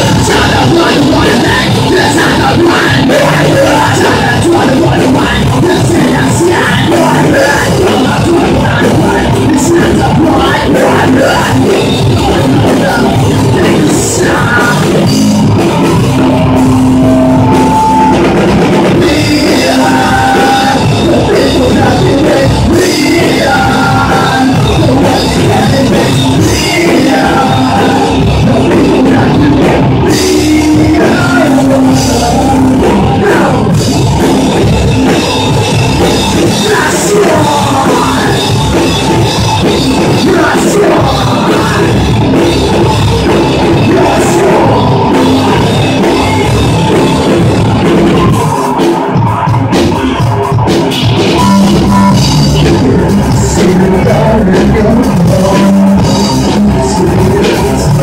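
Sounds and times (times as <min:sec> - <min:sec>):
distorted electric guitars: 0:00.0 - 0:58.0
drum kit: 0:00.0 - 0:58.0
live rock band playing: 0:00.0 - 0:58.0.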